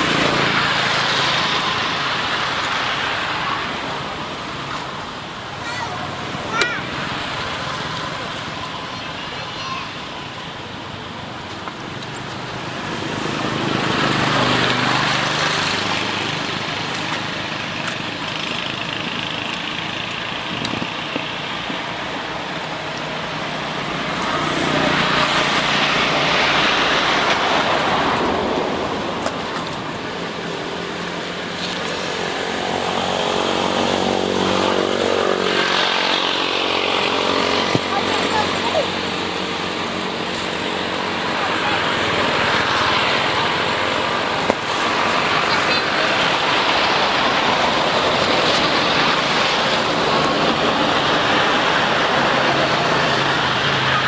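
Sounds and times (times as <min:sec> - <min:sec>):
vehicles passing by: 0:00.0 - 0:54.0.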